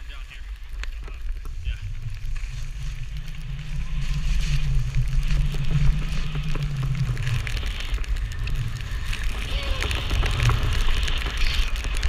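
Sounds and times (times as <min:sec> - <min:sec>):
skis sliding through snow: 0:00.0 - 0:12.0
wind rumble on microphone: 0:00.0 - 0:12.0.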